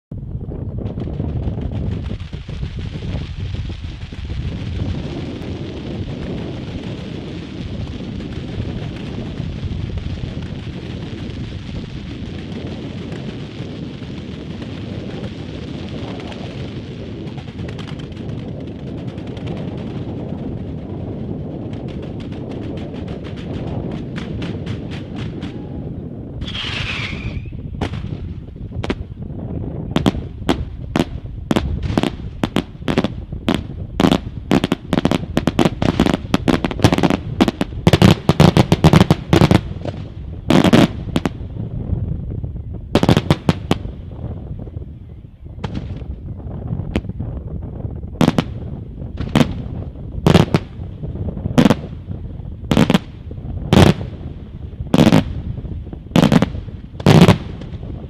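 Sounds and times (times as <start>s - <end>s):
fireworks crackle: 0.2s - 44.7s, 45.6s - 58.0s
loud firework bangs: 0.5s - 44.6s, 45.6s - 58.0s.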